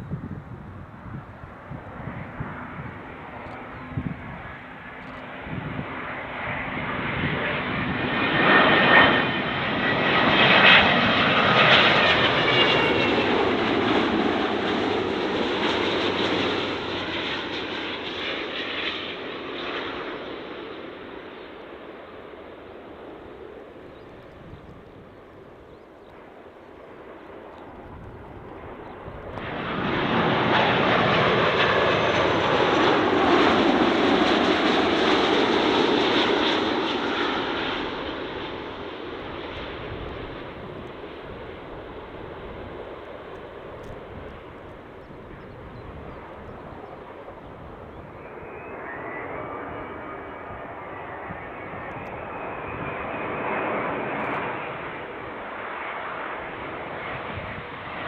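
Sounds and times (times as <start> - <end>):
another jet engine noise: 0.0 - 58.0
jet airliner engine noise: 0.0 - 58.0.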